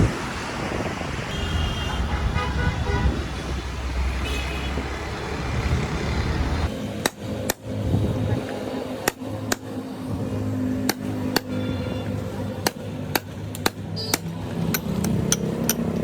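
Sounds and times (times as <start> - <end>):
road traffic rumbling: 0.0 - 16.0.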